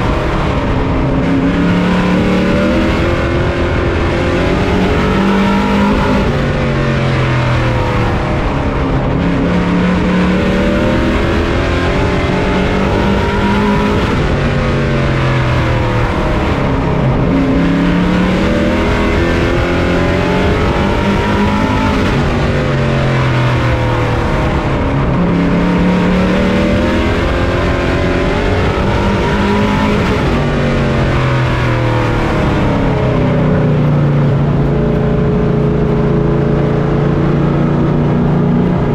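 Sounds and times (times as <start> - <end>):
race truck engine running hard: 0.0 - 38.9
wind and road noise: 0.0 - 38.9.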